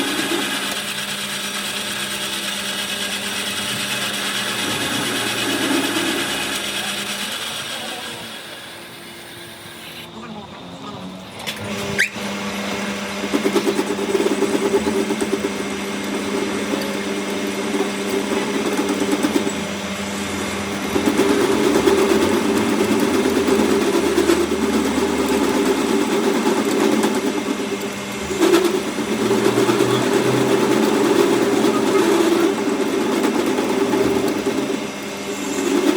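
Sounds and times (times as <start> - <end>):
workshop machine motor humming: 0.0 - 35.9.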